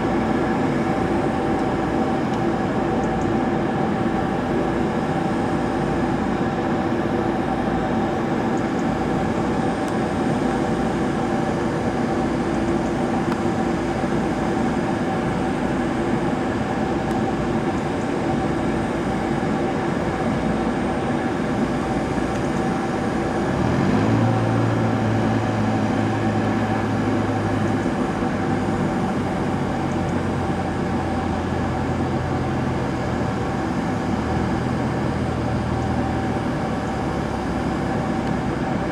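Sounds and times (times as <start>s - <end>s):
jet engines droning with whine: 0.0s - 38.9s.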